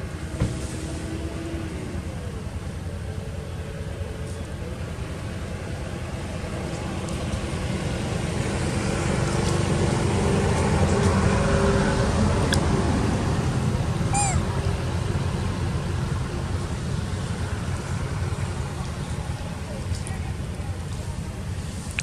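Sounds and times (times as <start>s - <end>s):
passing vehicle rumble: 0.0s - 22.0s.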